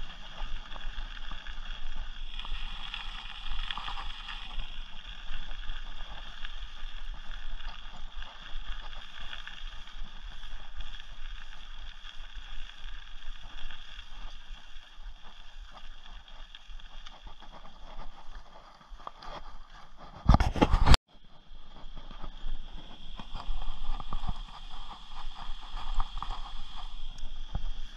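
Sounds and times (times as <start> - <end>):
bike tyres on gravel trail: 0.0 - 20.2, 21.2 - 27.9.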